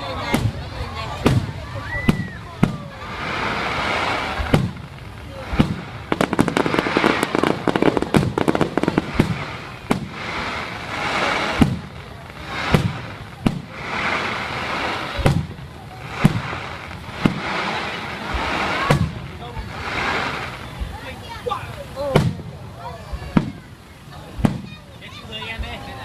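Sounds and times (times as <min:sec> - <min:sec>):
fireworks crackling: 0:00.0 - 0:26.0
firework shell bursts booming: 0:00.2 - 0:21.0, 0:22.1 - 0:23.7.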